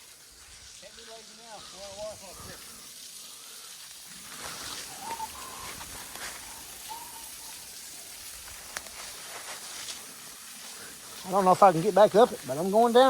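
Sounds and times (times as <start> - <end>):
footsteps on leaves and rock: 0.0 - 13.0
small waterfall hissing: 0.0 - 13.0.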